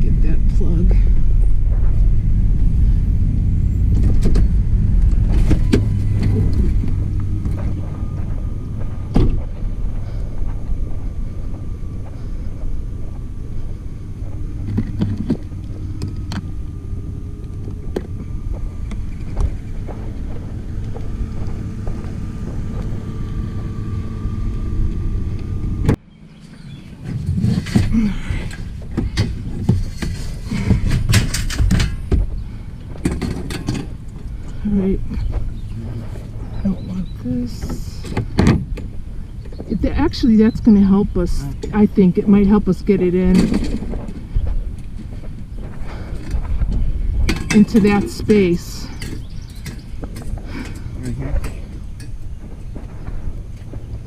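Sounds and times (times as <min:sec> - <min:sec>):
vehicle rumble: 0:00.0 - 0:54.0
light clattering: 0:00.9 - 0:54.0.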